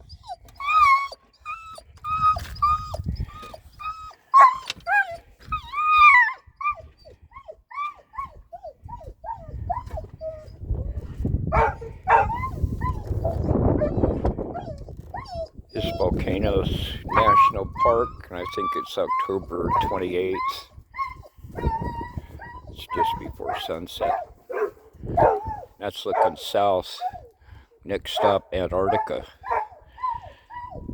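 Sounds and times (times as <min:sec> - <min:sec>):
animal whining calls: 0:00.0 - 0:27.4, 0:28.8 - 0:30.9.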